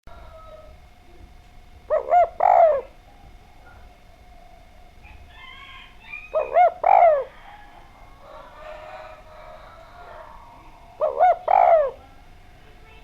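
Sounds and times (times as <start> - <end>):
dove cooing: 0.1 - 13.0.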